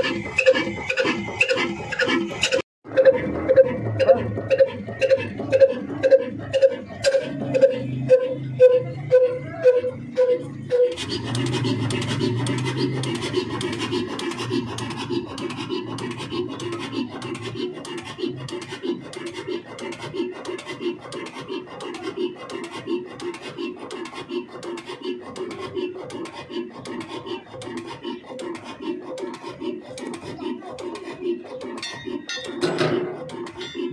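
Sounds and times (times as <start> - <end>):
stationary diesel engine clattering: 0.0 - 33.9.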